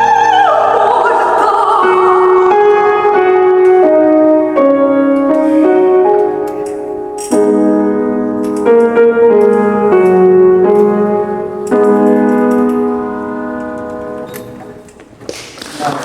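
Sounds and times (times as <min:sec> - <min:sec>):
piano chords ringing: 0:00.0 - 0:15.2.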